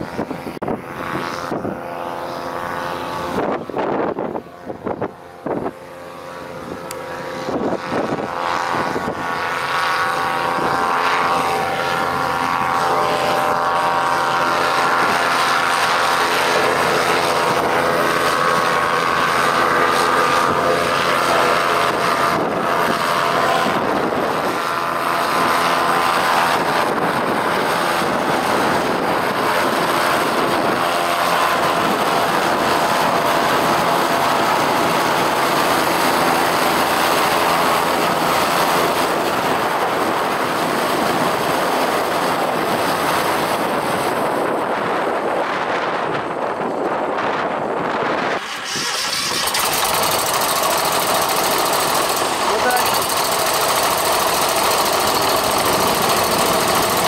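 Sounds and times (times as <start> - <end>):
hovercraft engine drone: 0.0 - 57.0.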